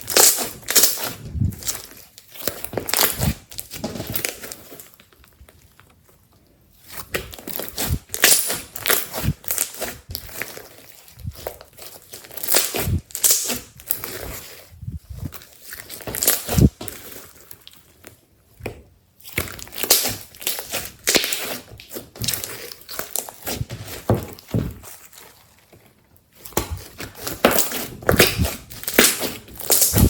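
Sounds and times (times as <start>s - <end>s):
slime squished by hand: 0.0s - 17.9s, 18.5s - 30.0s.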